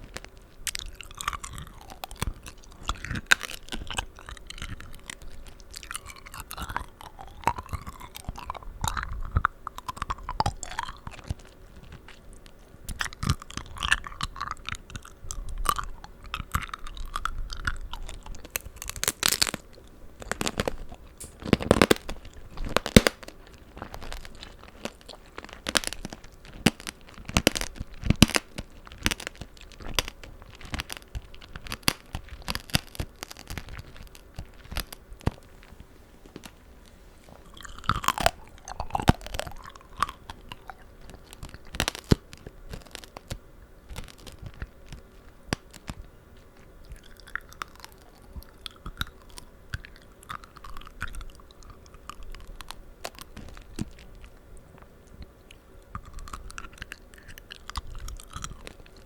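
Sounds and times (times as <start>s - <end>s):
wet chewing of fruit: 0.0s - 35.4s, 37.2s - 43.3s, 43.9s - 59.0s
candy shell crunching: 0.0s - 59.0s.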